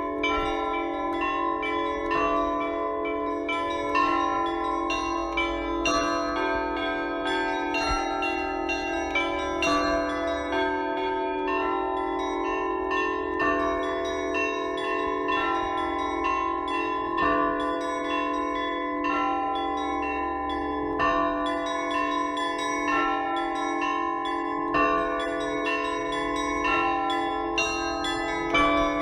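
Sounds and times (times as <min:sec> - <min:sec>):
large church bell strikes: 0:00.0 - 0:29.0
smaller higher bells ringing: 0:00.0 - 0:29.0.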